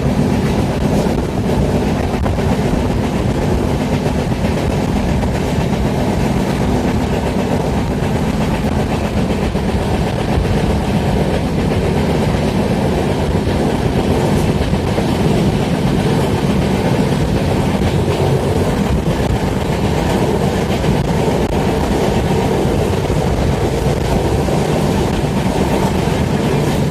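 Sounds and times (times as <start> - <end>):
train wheels on rails: 0.0 - 26.9.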